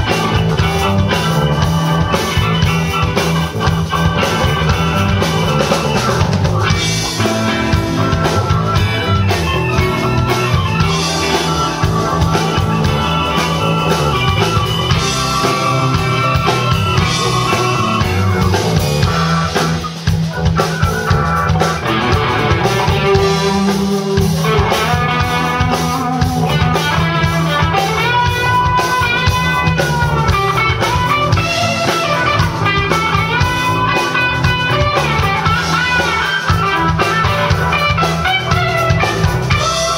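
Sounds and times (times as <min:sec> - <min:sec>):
drum kit: 0:00.0 - 0:39.9
electric guitar: 0:00.0 - 0:39.9
live rock band: 0:00.0 - 0:39.9.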